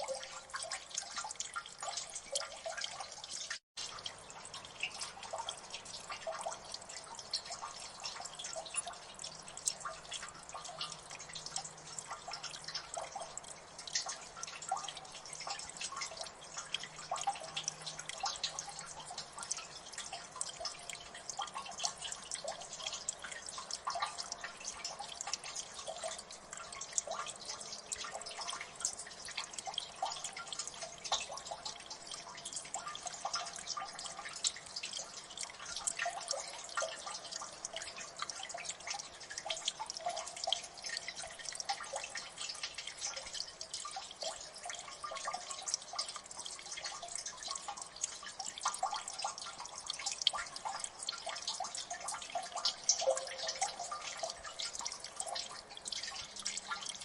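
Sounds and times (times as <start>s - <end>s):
water dripping: 0.0s - 57.0s.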